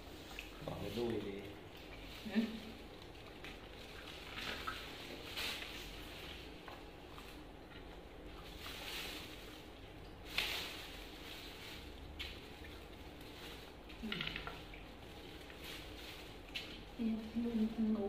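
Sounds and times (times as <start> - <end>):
crackling and rustling of fruit shells: 0.0 - 18.0
leafy branches rustling: 0.1 - 18.0.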